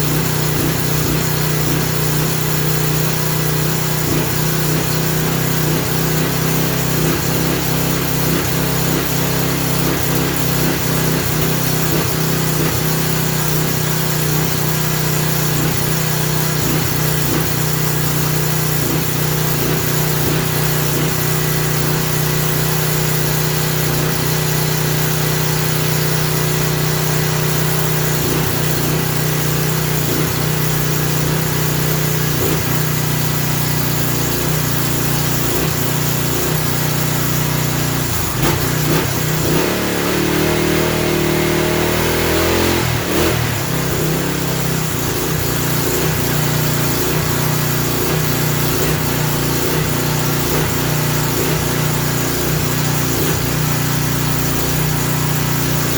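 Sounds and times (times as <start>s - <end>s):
small engine surging: 0.0s - 55.9s.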